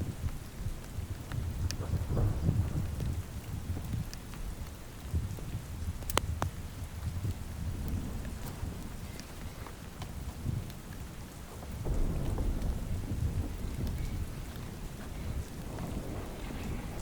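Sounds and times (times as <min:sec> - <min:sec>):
rain drop ticks: 0:00.0 - 0:17.0
steady rain: 0:00.0 - 0:17.0
thunder rumble: 0:00.0 - 0:17.0.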